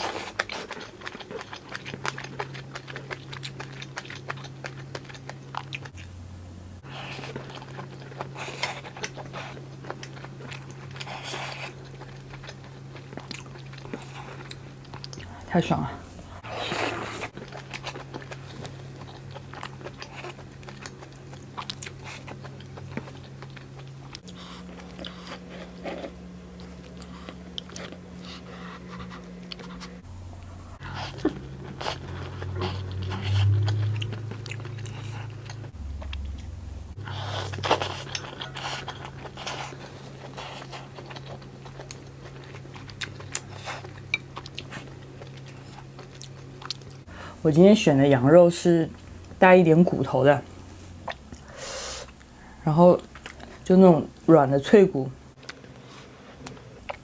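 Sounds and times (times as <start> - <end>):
chewing and crunching food: 0.0 - 6.2, 6.8 - 57.0
low hum: 1.7 - 53.6.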